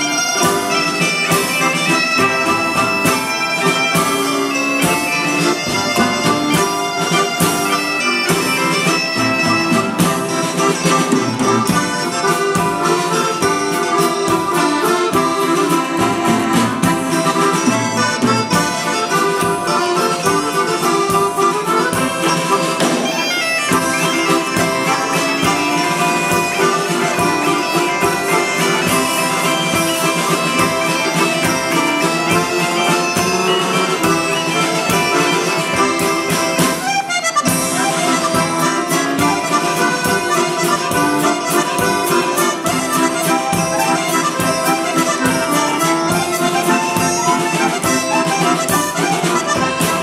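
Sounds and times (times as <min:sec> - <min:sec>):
accordion: 0:00.0 - 0:50.0
drum kit beat: 0:00.0 - 0:50.0
plucked strings: 0:00.0 - 0:50.0
reed wind instrument melody: 0:00.0 - 0:50.0.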